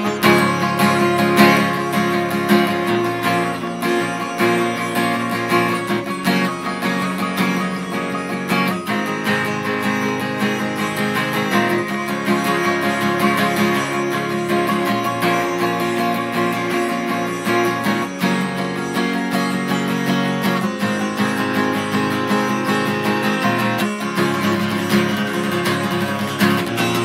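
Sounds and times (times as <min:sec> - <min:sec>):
acoustic guitar strumming: 0:00.0 - 0:27.0
plucked sitar: 0:00.0 - 0:27.0.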